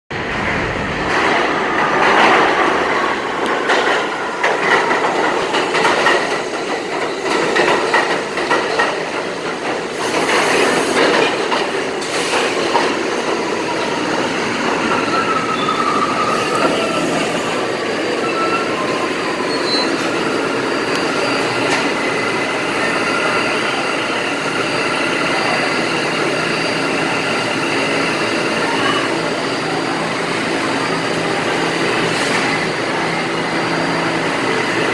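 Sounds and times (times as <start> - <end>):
subway train rumble: 0.1 - 34.9
train wheels clattering over rails: 0.3 - 28.5.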